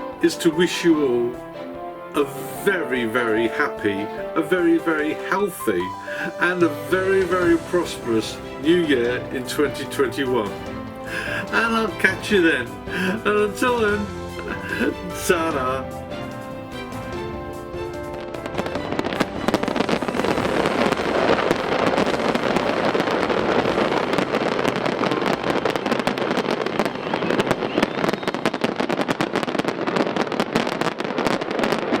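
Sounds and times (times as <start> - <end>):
closing music: 0.0 - 28.6
fireworks crackling and popping: 0.0 - 32.0.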